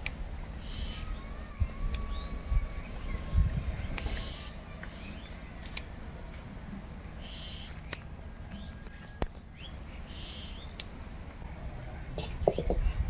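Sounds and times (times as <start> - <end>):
birds chirping: 0.5 - 13.0.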